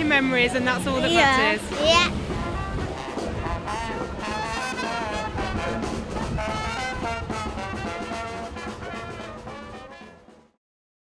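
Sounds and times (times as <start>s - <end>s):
brass music: 0.0s - 10.6s.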